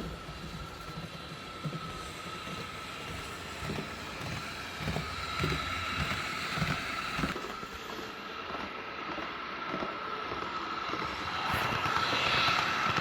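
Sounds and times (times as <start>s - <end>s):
model train motor whine: 0.0s - 13.0s
wheels clicking on rails: 0.0s - 13.0s.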